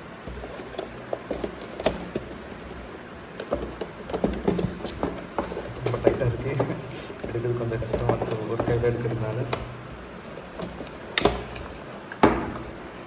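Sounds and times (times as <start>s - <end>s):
box and packaging knocks and scrapes: 0.1s - 12.7s.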